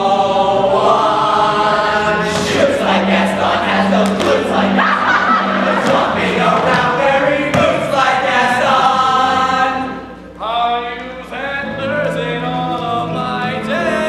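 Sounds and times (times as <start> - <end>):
male voices singing in chorus: 0.0 - 14.0.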